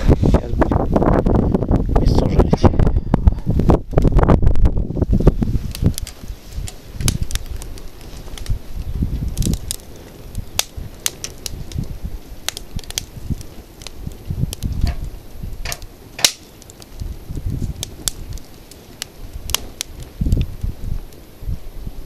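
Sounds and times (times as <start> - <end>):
campfire crackling and popping: 0.0 - 22.0
low gusty rumble: 0.0 - 22.0.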